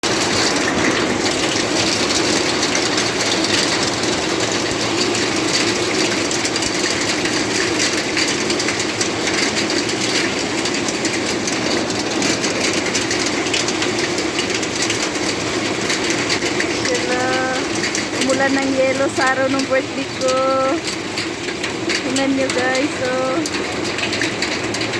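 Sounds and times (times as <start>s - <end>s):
hailstones striking hard surfaces: 0.0s - 24.9s
heavy rain: 0.0s - 24.9s.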